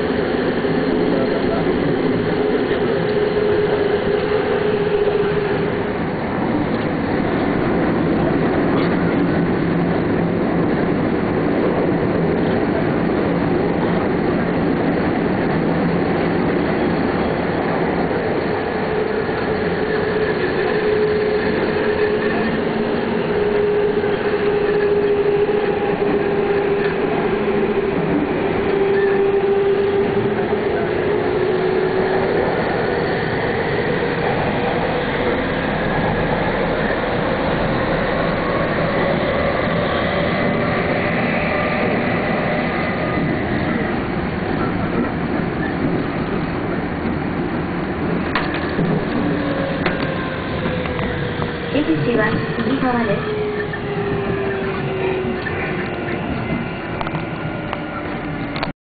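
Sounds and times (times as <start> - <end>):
subway train rumble: 0.0 - 58.7.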